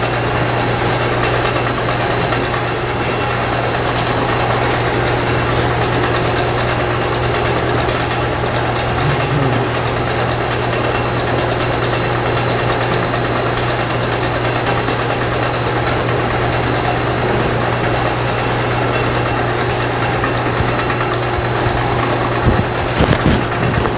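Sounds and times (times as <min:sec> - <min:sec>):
machine hum: 0:00.0 - 0:23.9.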